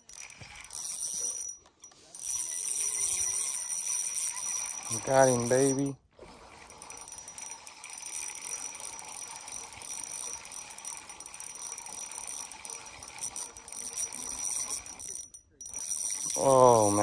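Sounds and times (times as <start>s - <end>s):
spinning reel ticking and whirring: 0.0s - 17.0s.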